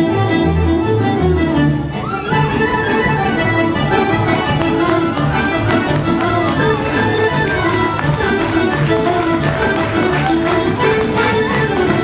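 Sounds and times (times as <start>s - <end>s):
accordions playing folk dance: 0.0s - 12.0s
violin playing: 0.0s - 12.0s.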